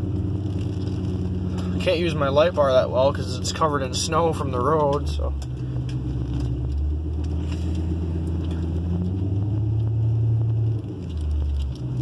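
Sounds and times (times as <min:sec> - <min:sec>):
engine running from inside cab: 0:00.0 - 0:12.0.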